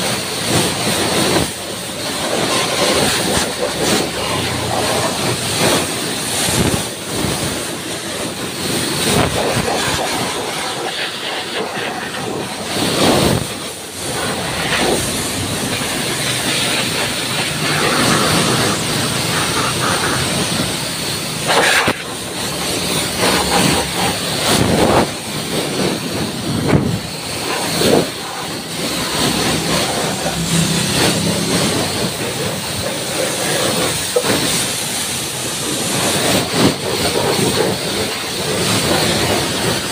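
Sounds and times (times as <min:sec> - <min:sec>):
pressure washer spraying: 0:00.0 - 0:39.9.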